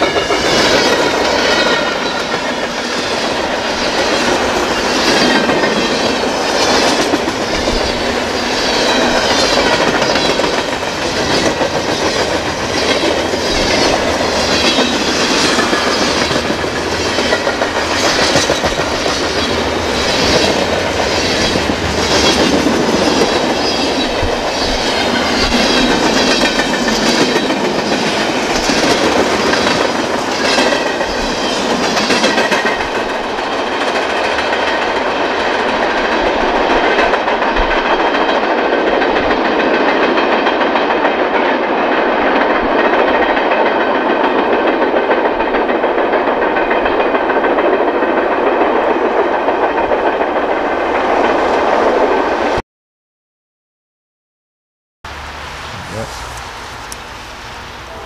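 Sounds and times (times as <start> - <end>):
train wheels rolling on rail: 0.0 - 52.6, 55.1 - 58.0.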